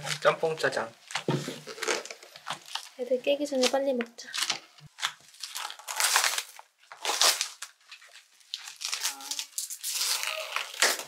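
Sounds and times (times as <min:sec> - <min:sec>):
plastic cling wrap crinkling: 0:00.0 - 0:11.0.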